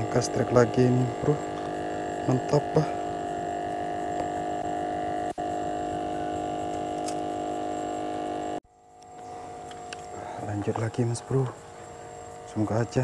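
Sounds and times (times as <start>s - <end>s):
steady multi-tone hum: 0.0s - 13.0s.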